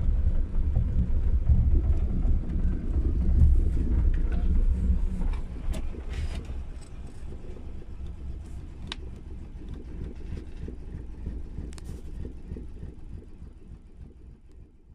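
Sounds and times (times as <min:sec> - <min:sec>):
van rumbling on dirt road: 0:00.0 - 0:14.9.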